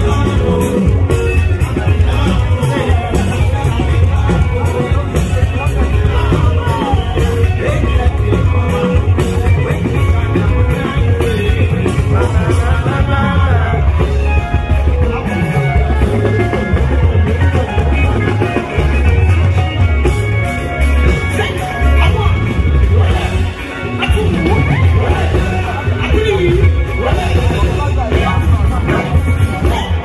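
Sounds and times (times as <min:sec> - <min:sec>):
afrobeat music with bass beat: 0:00.0 - 0:30.0
person singing: 0:00.0 - 0:30.0.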